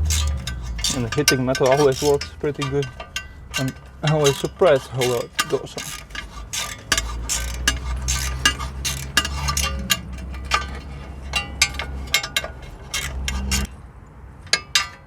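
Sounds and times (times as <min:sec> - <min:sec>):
metal tools clinking on bolts: 0:00.0 - 0:13.7, 0:14.5 - 0:15.0
socket wrench clicking: 0:00.0 - 0:13.7.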